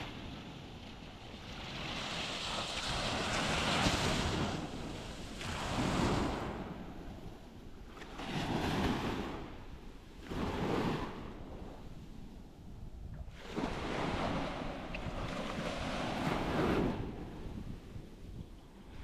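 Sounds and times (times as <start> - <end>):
sea waves breaking on beach: 0.0 - 12.3, 13.2 - 19.0
wind rumbling on microphone: 0.0 - 19.0.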